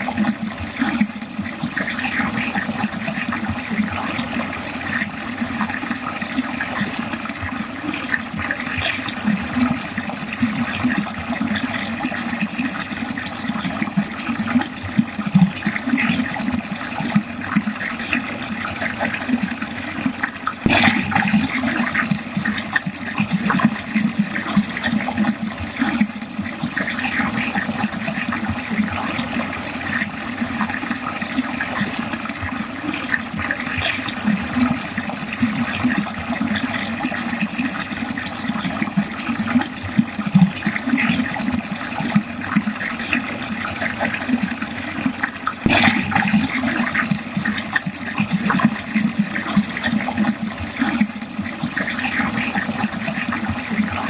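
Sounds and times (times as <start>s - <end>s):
water gurgling down a drain: 0.0s - 54.0s
water splashing: 0.0s - 54.0s.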